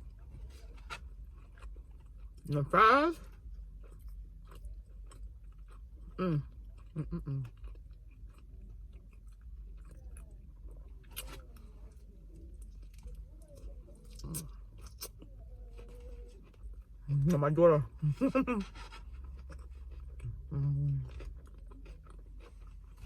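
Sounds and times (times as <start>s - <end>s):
person chewing and crunching food: 0.0s - 23.0s.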